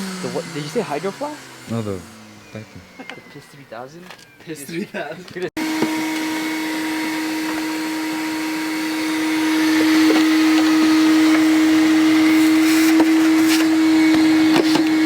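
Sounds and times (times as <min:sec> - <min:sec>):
vacuum cleaner humming: 0:00.0 - 0:04.9, 0:05.6 - 0:15.0.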